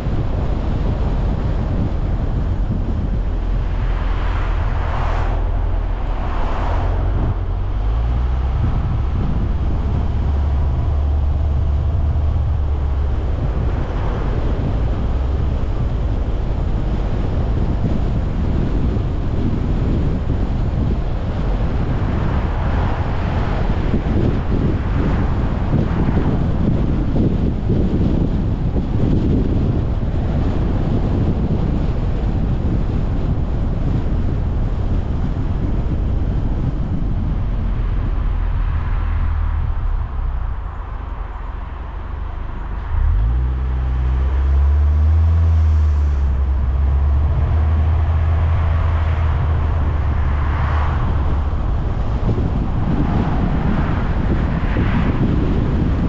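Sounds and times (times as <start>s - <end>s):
steady low hum: 0.0s - 56.0s
tyre and road noise: 0.0s - 56.0s
wind rushing on microphone: 0.0s - 56.0s.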